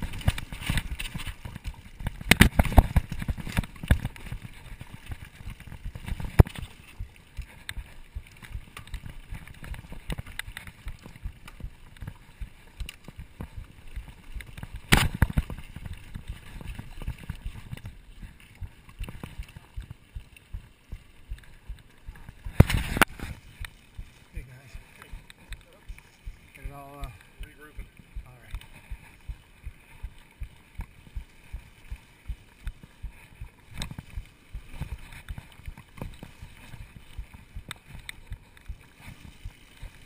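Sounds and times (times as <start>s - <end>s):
bike rattles and knocks: 0.0s - 40.0s
steady low rumble: 0.0s - 40.0s.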